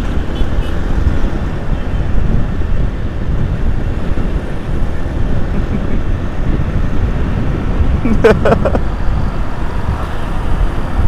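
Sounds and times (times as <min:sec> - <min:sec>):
motorcycle engine and tyre rumble: 0:00.0 - 0:11.0
wind rushing over microphone: 0:00.0 - 0:11.0.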